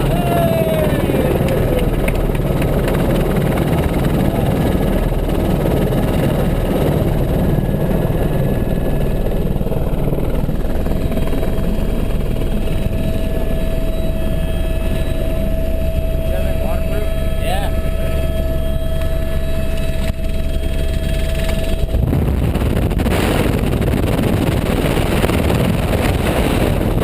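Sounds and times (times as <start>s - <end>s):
faint steady whine: 0.0s - 27.0s
helicopter engine and rotor drone: 0.0s - 27.0s.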